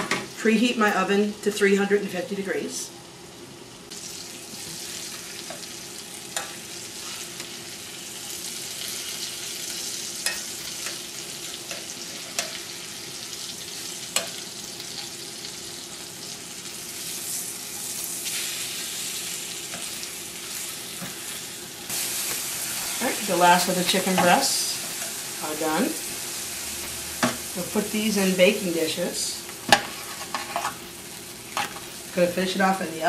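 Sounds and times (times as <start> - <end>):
chicken sizzling in pan: 2.7 - 32.9.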